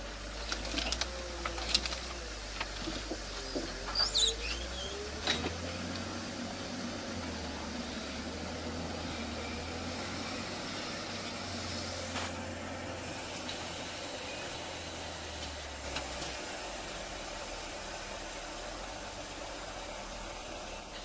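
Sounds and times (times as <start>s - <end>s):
heavy machine engine droning: 0.0s - 21.0s.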